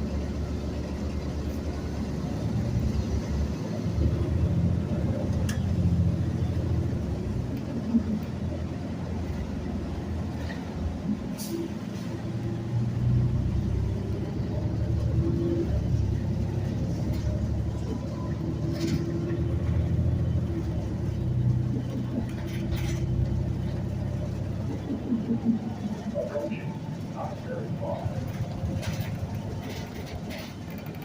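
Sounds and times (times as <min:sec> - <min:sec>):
bus engine drone: 0:00.0 - 0:31.0
road rumble: 0:00.0 - 0:31.0.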